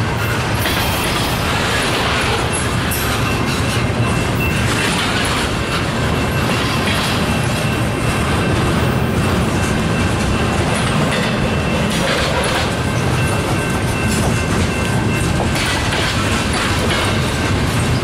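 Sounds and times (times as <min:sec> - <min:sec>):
freight train wheels rumbling on rails: 0:00.0 - 0:18.0.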